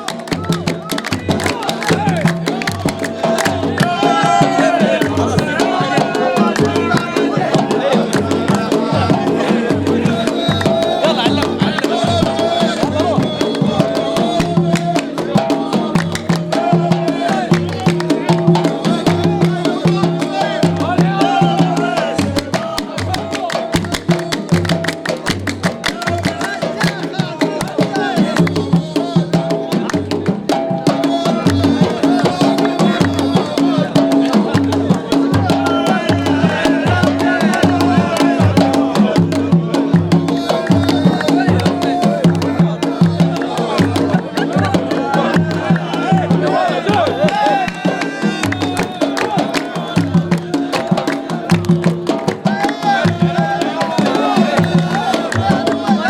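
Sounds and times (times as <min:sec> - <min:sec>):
fast dense drumming: 0:00.0 - 0:56.0.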